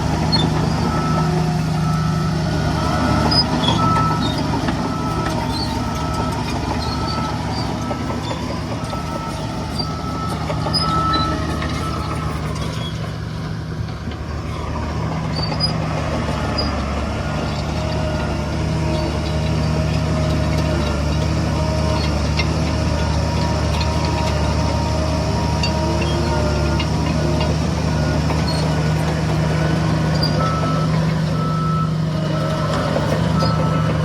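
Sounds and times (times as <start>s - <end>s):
heavy diesel machinery droning: 0.0s - 34.0s.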